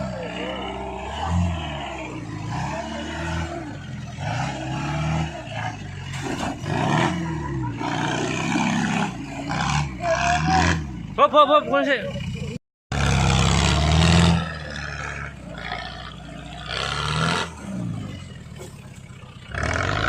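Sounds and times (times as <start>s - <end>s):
engine revving: 0.0s - 18.7s, 19.5s - 20.0s.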